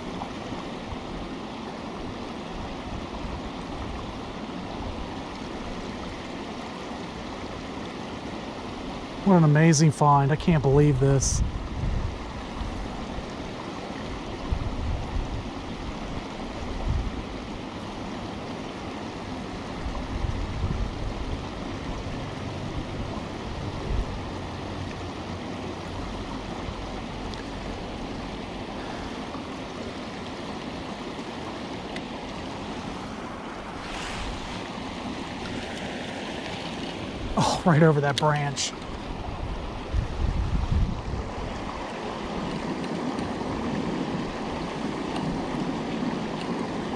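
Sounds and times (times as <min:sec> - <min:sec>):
creek water running: 0:00.0 - 0:46.9.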